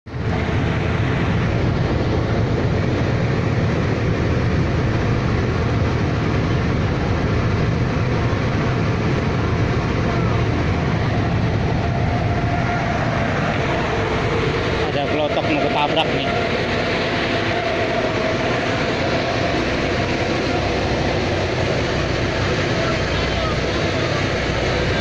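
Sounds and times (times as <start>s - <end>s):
boat engine rumble: 0.0s - 25.0s
wind and water hiss: 0.1s - 25.0s.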